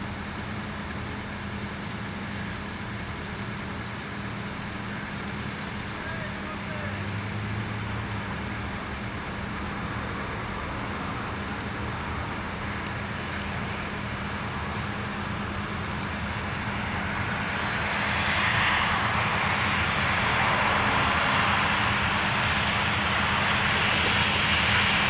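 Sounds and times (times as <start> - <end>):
jet engine of landing airliner: 0.0 - 25.0.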